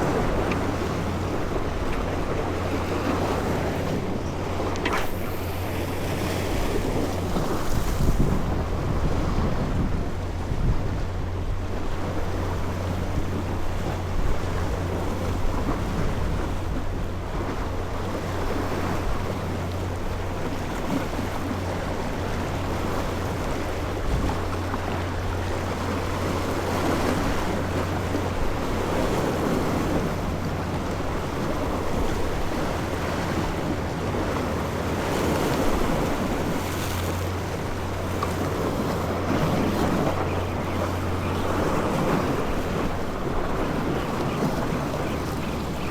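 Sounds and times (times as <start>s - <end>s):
boat engine hum: 0.0s - 45.9s
rushing water: 0.0s - 45.9s
wind buffeting microphone: 0.0s - 45.9s.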